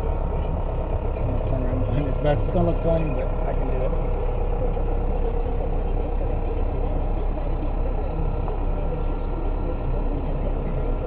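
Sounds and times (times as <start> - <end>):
car engine inside cabin: 0.0 - 11.0.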